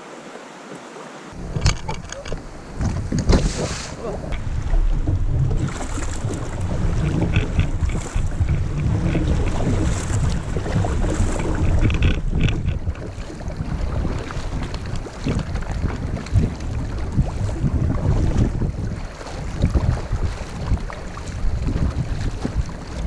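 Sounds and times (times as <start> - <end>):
flowing water: 0.0 - 23.0
paddle splashing: 0.0 - 23.0
wind rumble on microphone: 1.4 - 23.0.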